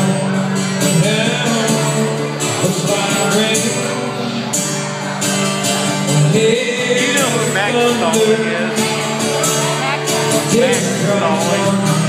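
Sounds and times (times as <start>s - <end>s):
acoustic guitars strummed: 0.0s - 12.0s.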